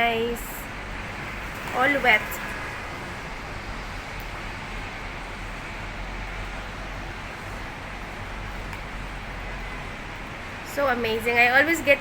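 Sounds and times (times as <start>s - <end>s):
road traffic hiss: 0.0s - 12.0s.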